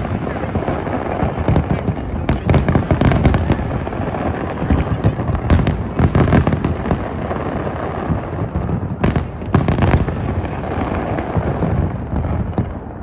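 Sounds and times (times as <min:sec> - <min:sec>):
fireworks bursting and crackling: 0:00.0 - 0:13.0
sharp loud fireworks reports: 0:00.0 - 0:13.0.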